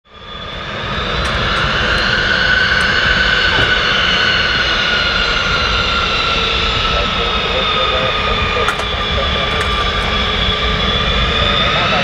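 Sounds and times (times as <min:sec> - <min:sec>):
jet engines whining: 0:00.1 - 0:12.0
wind rumble on microphone: 0:00.2 - 0:12.0.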